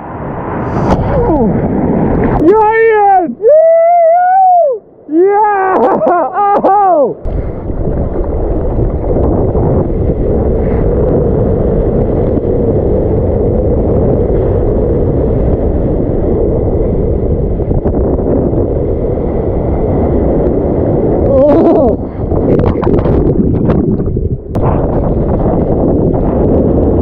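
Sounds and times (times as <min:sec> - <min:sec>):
wind against camera: 0:00.0 - 0:27.0
muffled rushing water: 0:04.9 - 0:27.0.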